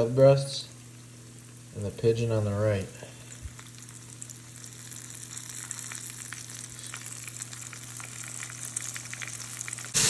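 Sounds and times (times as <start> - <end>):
meat frying in hot oil: 0.0 - 10.0.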